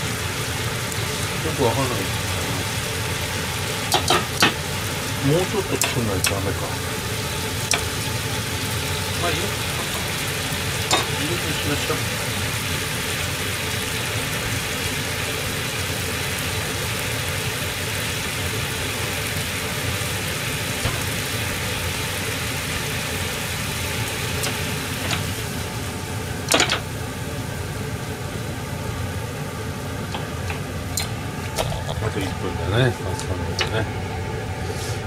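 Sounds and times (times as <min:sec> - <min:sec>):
sauce simmering: 0:00.0 - 0:35.0
water boiling in pan: 0:00.0 - 0:35.0.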